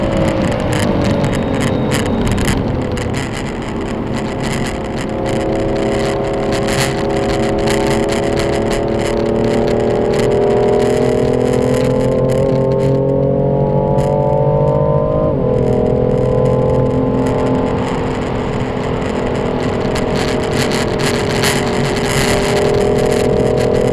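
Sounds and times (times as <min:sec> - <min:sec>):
car engine accelerating: 0:00.0 - 0:23.9.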